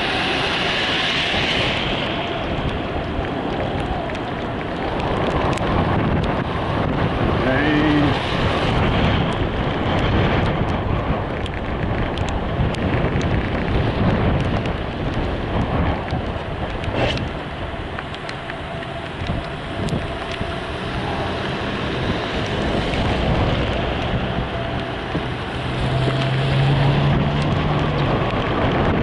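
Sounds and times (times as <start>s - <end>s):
wind and road noise: 0.0s - 29.0s
wind buffeting microphone: 0.0s - 29.0s.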